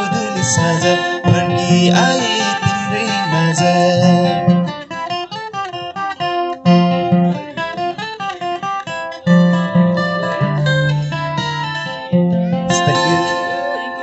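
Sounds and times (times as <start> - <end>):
acoustic guitar picking melody: 0.0 - 14.0.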